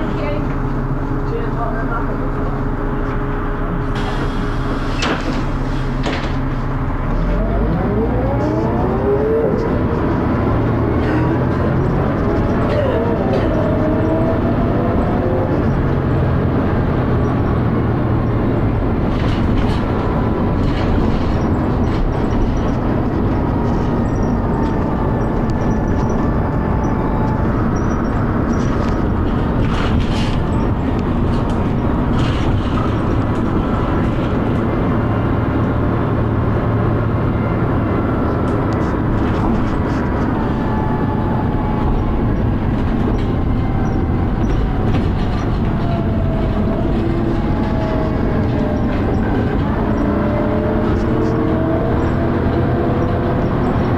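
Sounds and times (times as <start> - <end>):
heavy bus engine and road rumble: 0.0 - 53.9.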